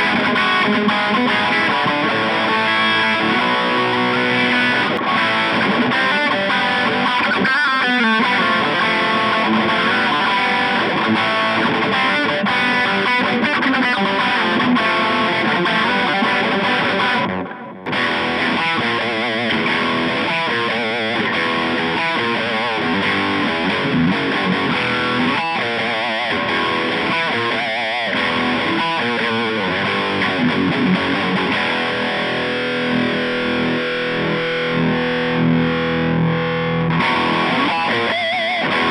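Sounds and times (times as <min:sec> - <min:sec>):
distorted electric guitar riffing: 0:00.0 - 0:38.9.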